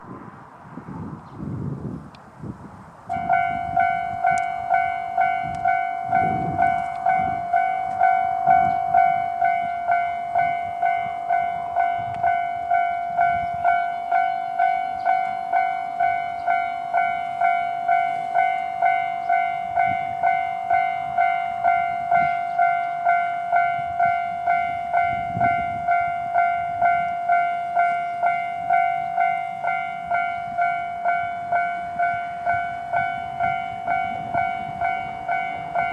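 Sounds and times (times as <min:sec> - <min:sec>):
level-crossing electronic bell: 0:03.1 - 0:35.9.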